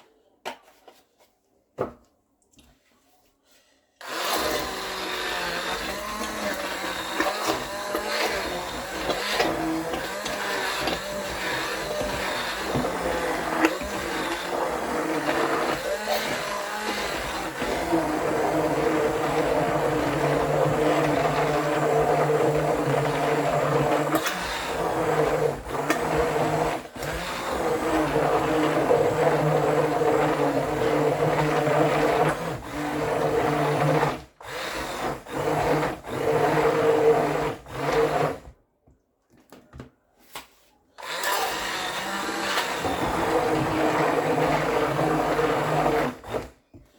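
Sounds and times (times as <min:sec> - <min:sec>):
blender running: 0:04.0 - 0:38.5, 0:41.0 - 0:46.8.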